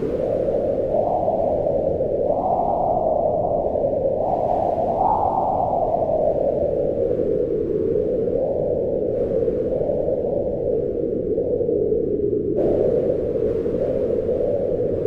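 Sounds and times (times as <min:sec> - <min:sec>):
howling wind: 0:00.0 - 0:15.0.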